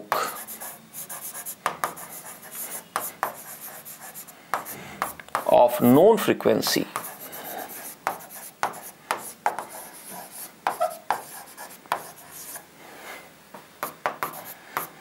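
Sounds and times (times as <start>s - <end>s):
writing scratching on board: 0.0s - 5.6s, 6.4s - 12.6s, 13.8s - 15.0s.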